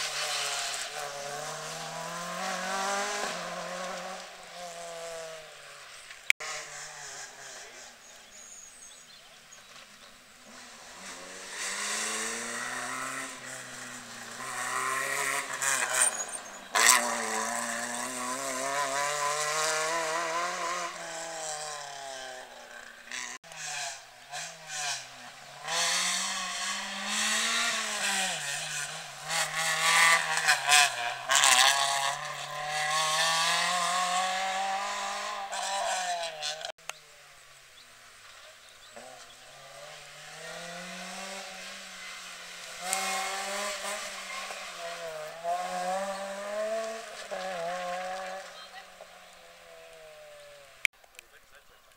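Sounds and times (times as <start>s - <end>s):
rally car engines at high revs: 0.0s - 51.9s.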